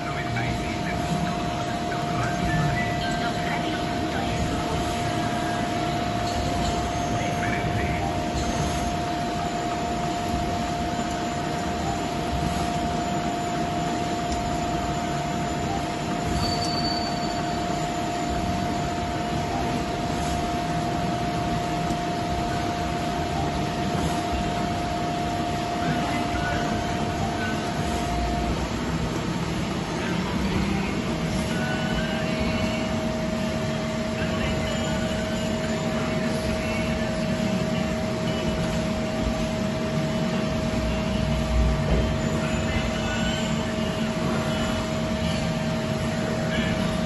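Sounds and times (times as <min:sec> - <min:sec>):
lathe machine hum: 0:00.0 - 0:47.0
steady lathe whine: 0:00.0 - 0:47.0.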